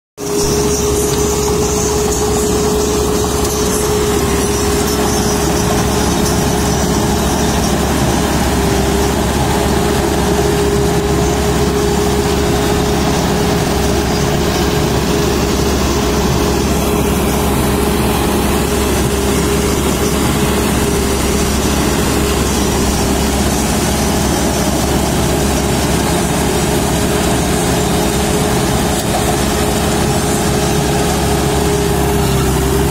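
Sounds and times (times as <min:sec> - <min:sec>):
combine harvester droning: 0:00.2 - 0:32.9
constant humming tone: 0:00.2 - 0:32.9.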